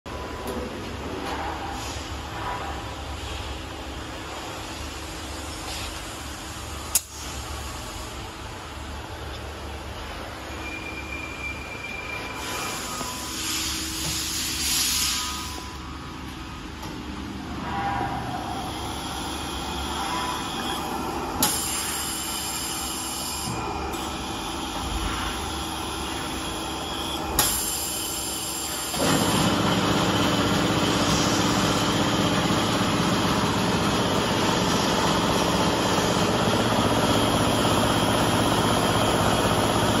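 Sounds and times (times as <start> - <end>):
machine mechanical hum: 0.1 - 40.0.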